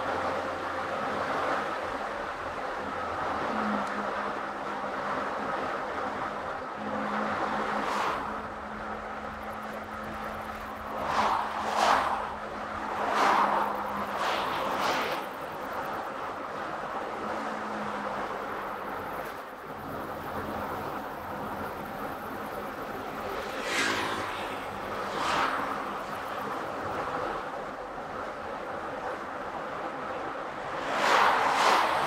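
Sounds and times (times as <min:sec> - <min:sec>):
car road noise: 0:00.0 - 0:32.0.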